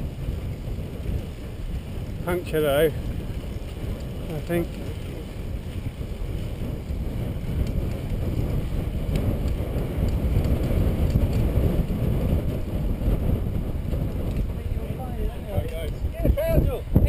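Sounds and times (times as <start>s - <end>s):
tyres rumbling on tarmac: 0.0s - 17.0s
wind buffeting microphone: 0.0s - 17.0s.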